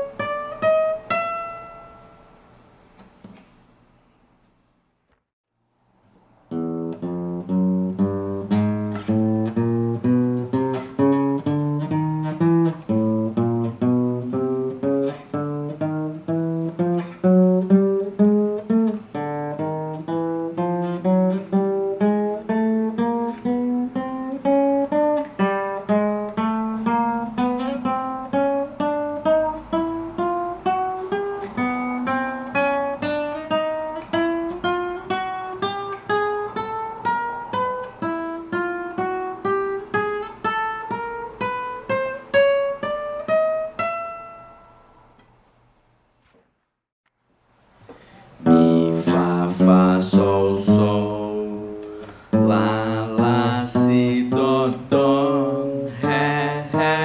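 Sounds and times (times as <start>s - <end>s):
acoustic guitar plucked notes: 0.0s - 2.4s, 6.5s - 45.4s, 47.9s - 57.0s.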